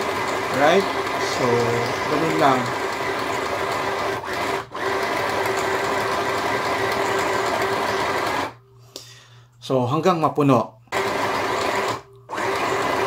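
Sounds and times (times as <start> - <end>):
sewing machine running: 0.0 - 8.6, 10.9 - 13.0.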